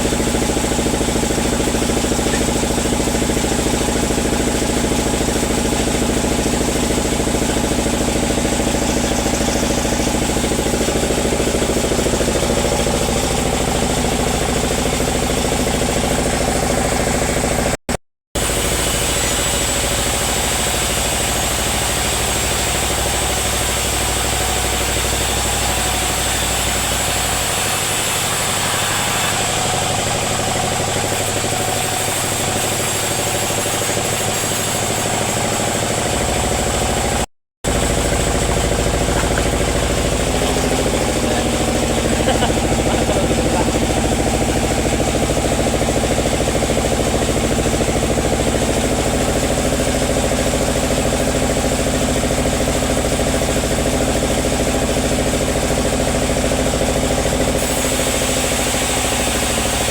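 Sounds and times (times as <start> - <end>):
sawmill machinery drone: 0.0 - 17.8, 18.4 - 59.9.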